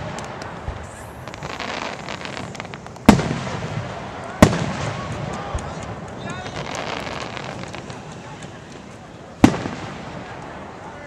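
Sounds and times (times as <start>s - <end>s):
fireworks bangs with rumbling echo: 0.0s - 11.0s
light crackling: 0.0s - 11.0s.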